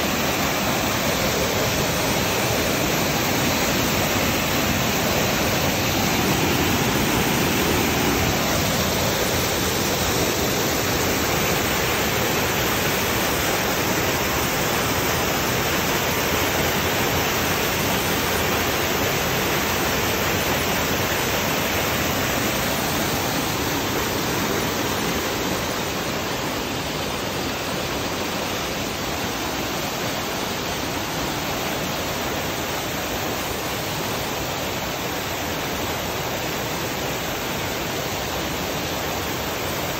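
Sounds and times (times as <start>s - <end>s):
waterfall pouring over rocks: 0.0s - 39.9s.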